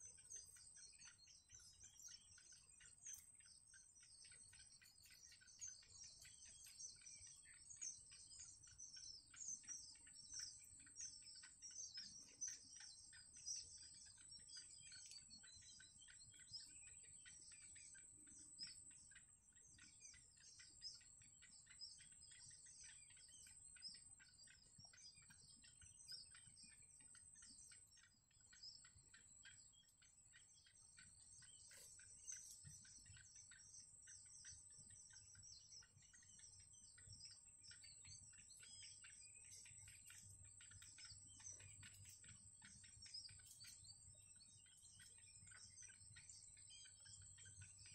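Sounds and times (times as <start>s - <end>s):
rapid high-pitched bird chirping: 0.0s - 47.9s.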